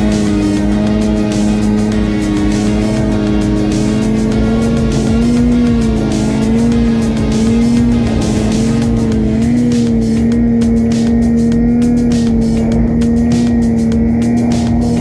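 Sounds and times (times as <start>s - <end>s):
music playing: 0.0s - 15.0s
snowmobile engine revving: 0.0s - 15.0s.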